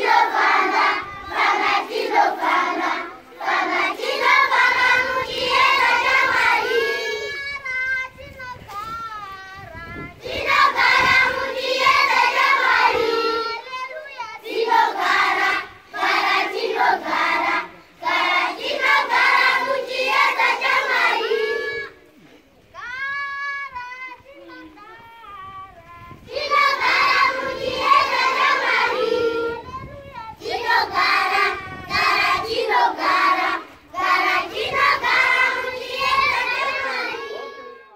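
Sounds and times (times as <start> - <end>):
children singing unaccompanied: 0.0 - 22.3, 23.1 - 37.9.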